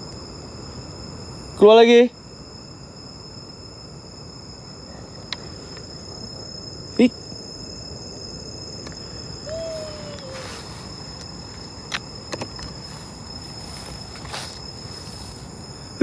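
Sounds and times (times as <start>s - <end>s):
crickets droning: 0.0s - 16.0s.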